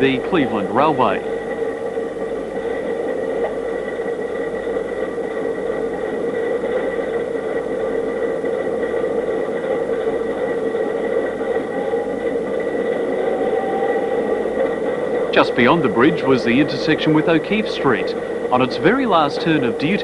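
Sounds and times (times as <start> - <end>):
mechanical whirring hum: 0.0 - 20.0.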